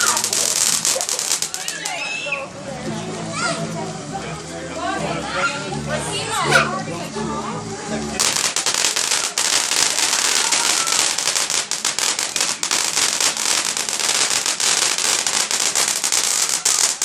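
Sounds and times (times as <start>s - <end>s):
fireworks crackling: 0.0s - 17.0s.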